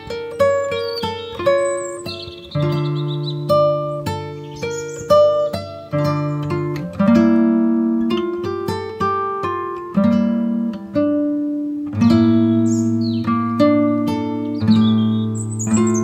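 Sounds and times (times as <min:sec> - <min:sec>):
acoustic guitar picking and strumming: 0:00.0 - 0:16.0.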